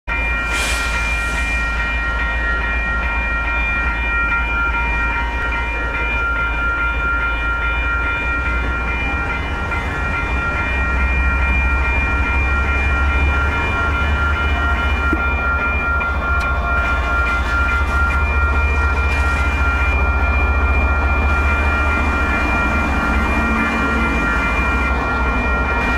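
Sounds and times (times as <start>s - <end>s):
diesel locomotive: 0.1s - 25.9s
freight train rumbling past: 0.1s - 25.9s
high-pitched ringing tones: 0.1s - 25.9s.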